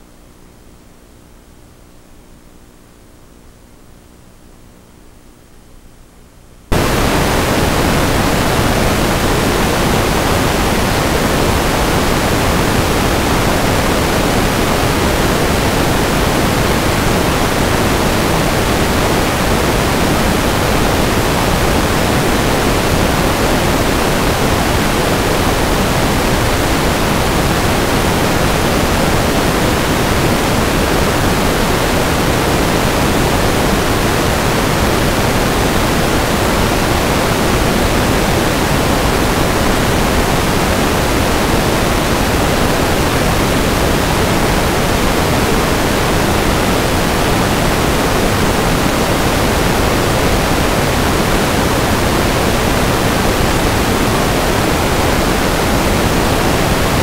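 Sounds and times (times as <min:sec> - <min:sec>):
static hiss: 0:00.0 - 0:57.0.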